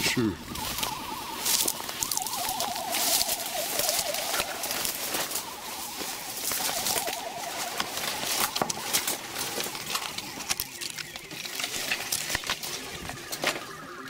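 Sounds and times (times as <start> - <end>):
rustling undergrowth: 0.0 - 14.0
bird warbling call: 0.4 - 14.0
twigs crackling and snapping: 0.4 - 14.0.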